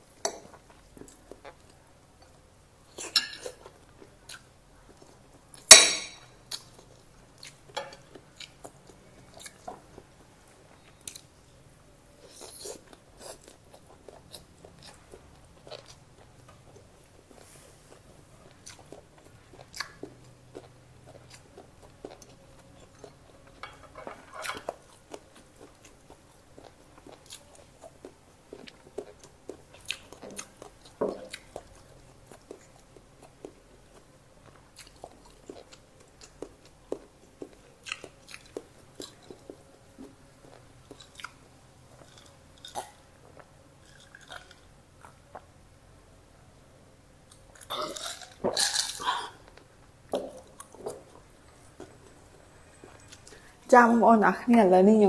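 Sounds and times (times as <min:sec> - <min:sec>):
chewing and crunching food: 0:00.2 - 0:11.4, 0:12.2 - 0:45.6, 0:47.2 - 0:53.6.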